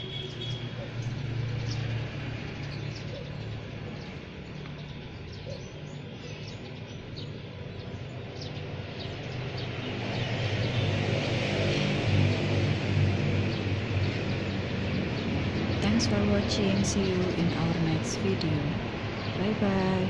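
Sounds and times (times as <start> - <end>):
birds chirping: 0.0 - 11.5, 13.4 - 20.0
low engine-like hum: 0.0 - 20.0.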